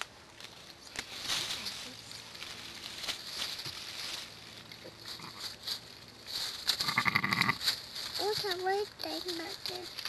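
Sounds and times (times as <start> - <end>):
dry leaves rustling and crackling: 0.0 - 10.0.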